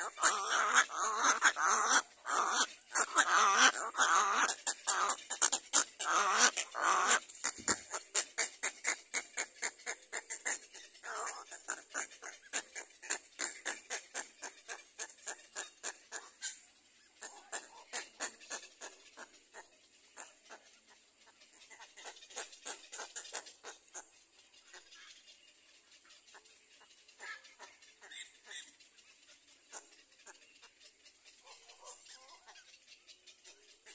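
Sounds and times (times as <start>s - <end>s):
chicks squawking: 0.0s - 33.9s
chicks ticking begging calls: 0.0s - 33.9s.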